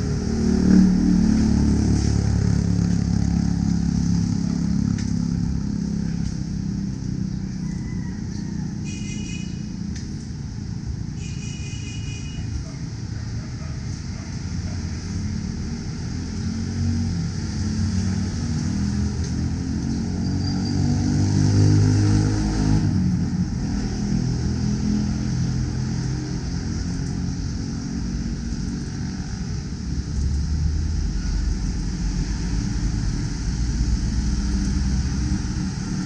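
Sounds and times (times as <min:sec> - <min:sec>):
vehicle engine passing: 0:00.0 - 0:07.8, 0:13.0 - 0:36.0
traffic rumble: 0:00.0 - 0:36.0.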